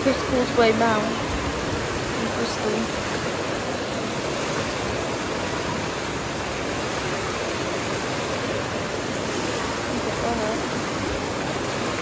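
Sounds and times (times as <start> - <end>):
water fountain splashing: 0.0 - 12.0
water spilling into pool: 0.0 - 12.0.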